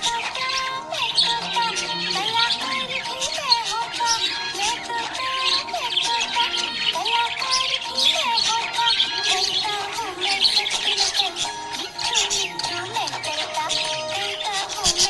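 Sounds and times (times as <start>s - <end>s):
background music with gliding melody: 0.0s - 15.0s
budgies chirping and chattering: 0.0s - 15.0s.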